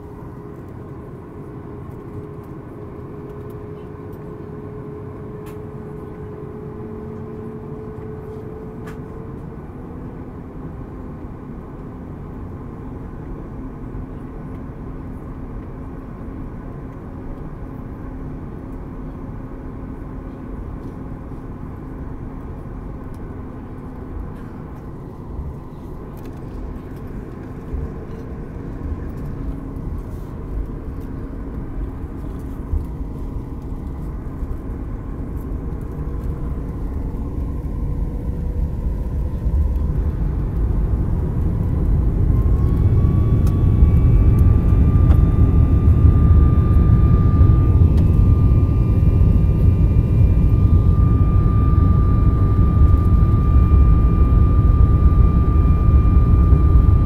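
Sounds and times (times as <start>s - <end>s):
engine whine: 0.0s - 57.0s
jet engines from inside cabin: 0.0s - 57.0s.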